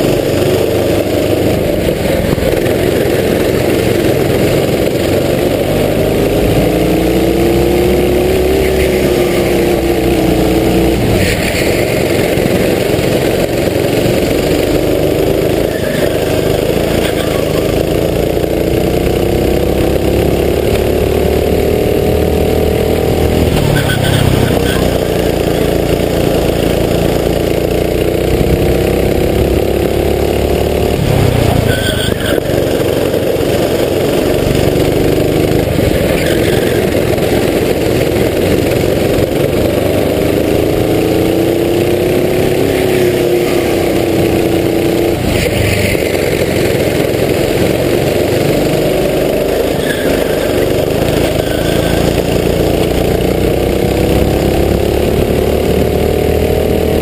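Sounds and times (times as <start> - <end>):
racing kart engine revving: 0.0 - 57.0.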